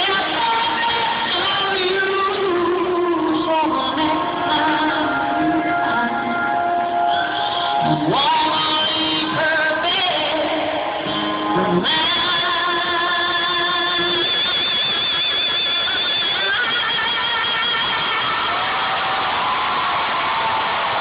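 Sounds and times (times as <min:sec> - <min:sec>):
woman singing with vibrato: 0:00.0 - 0:18.9
live concert music: 0:00.0 - 0:21.0.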